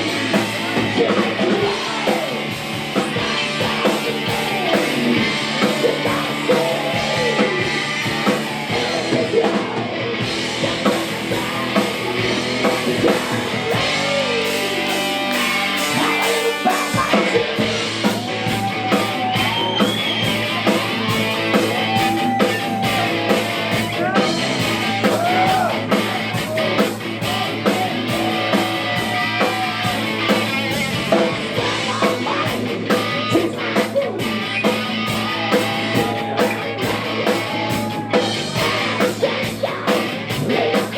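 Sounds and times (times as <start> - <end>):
drums: 0.0 - 40.9
electric guitar: 0.0 - 40.9
person singing: 0.0 - 40.9.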